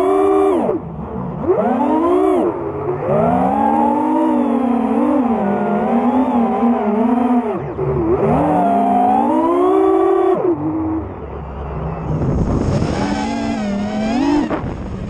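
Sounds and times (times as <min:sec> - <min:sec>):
quadcopter motors whining: 0:01.4 - 0:11.2, 0:12.0 - 0:15.0.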